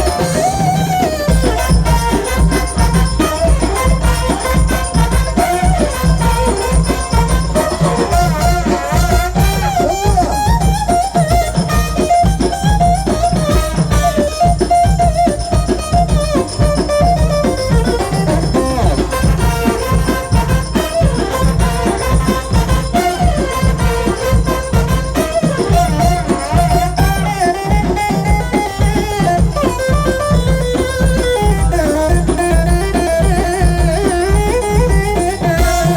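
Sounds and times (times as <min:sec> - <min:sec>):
instrumental dance music: 0:00.0 - 0:35.9.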